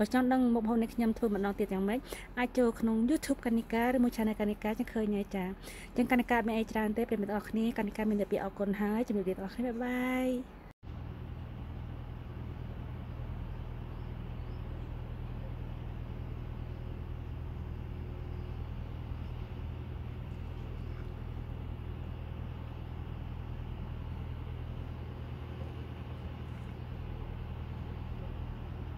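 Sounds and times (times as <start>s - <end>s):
low hum and rumble outdoors: 0.0s - 28.9s.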